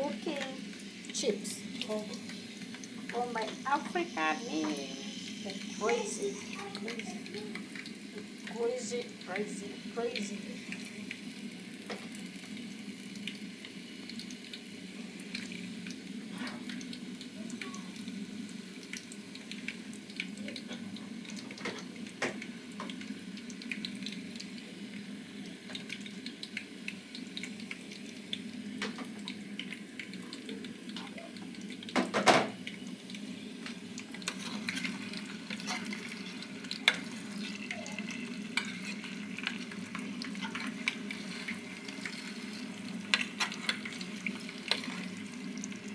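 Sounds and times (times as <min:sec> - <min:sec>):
chips sizzling in oil: 0:00.0 - 0:45.9.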